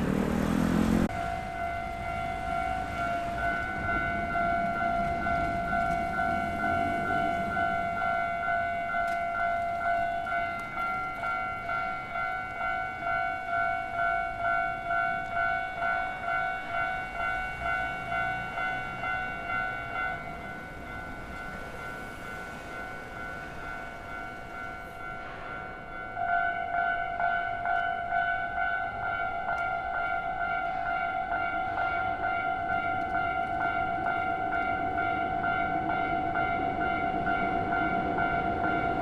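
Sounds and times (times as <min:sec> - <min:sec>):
level crossing warning bell: 0:00.0 - 0:39.0.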